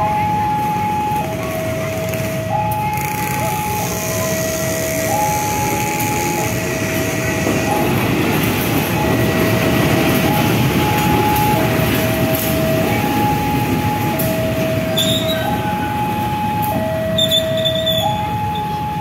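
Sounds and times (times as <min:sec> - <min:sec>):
diesel locomotive rumbling: 0:00.0 - 0:19.0
level crossing two-tone alarm: 0:00.0 - 0:19.0.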